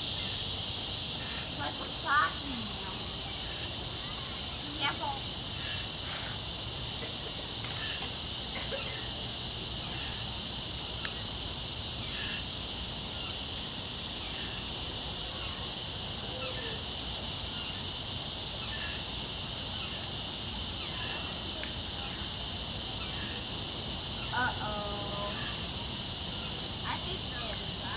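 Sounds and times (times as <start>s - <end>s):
insects chirring: 0.0s - 27.9s.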